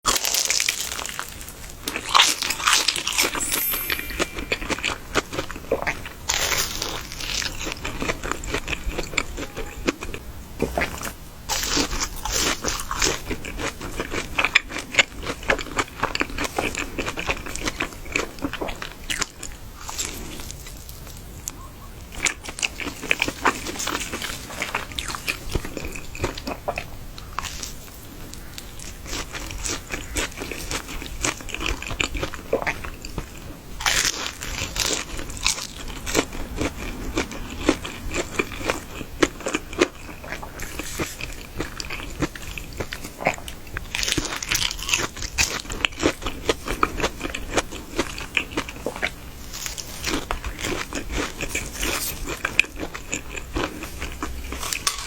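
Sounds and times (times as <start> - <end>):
chewing crispy fried chicken: 0.0 - 3.5, 4.1 - 55.0.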